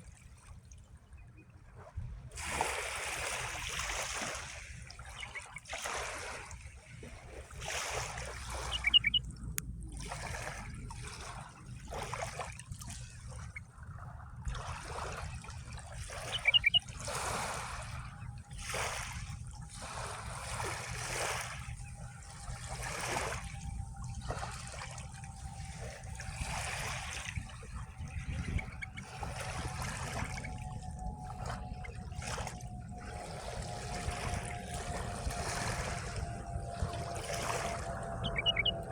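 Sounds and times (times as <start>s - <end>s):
small waves lapping and splashing: 0.0s - 38.9s
steady low rumble: 6.9s - 38.9s.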